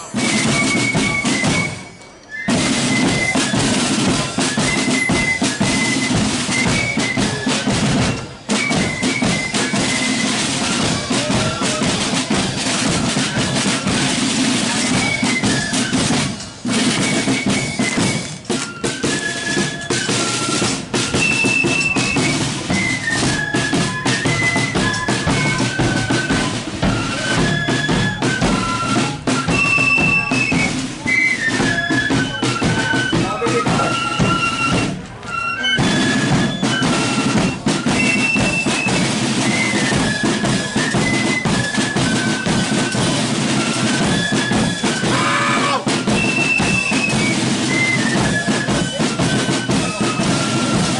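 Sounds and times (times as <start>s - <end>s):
flute melody: 0.0s - 50.9s
side drums: 0.0s - 50.9s.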